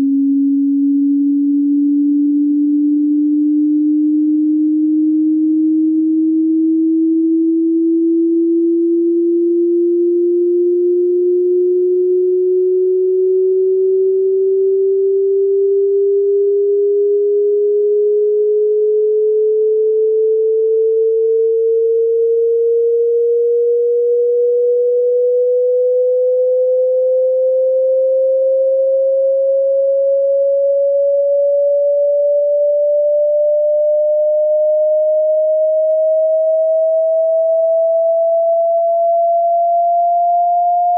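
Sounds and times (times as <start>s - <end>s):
rising sine test tone: 0.0s - 40.9s.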